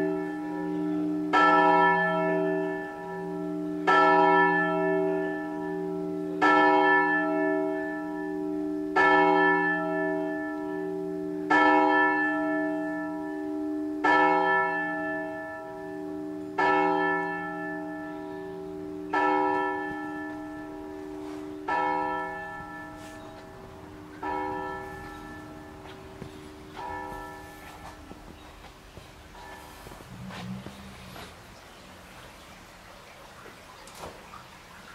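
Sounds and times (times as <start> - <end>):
church bell tolling: 0.0 - 31.3.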